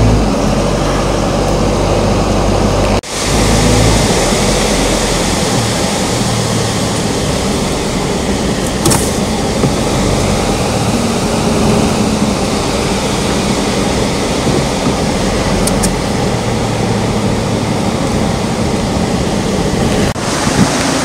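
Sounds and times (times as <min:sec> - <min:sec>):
low engine hum: 0:00.0 - 0:21.0
road and wind noise: 0:00.0 - 0:21.0.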